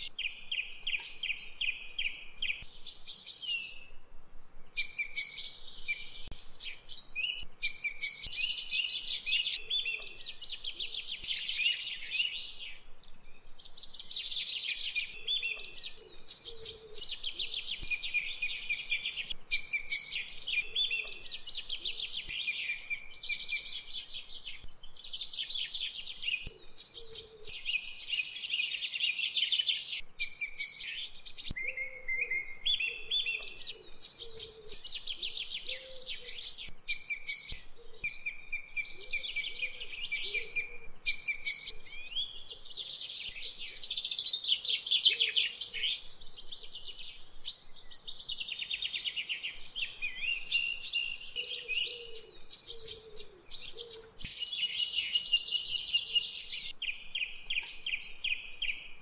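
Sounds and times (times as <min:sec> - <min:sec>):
birds chirping and trilling: 0:00.0 - 0:04.0, 0:04.6 - 0:59.0.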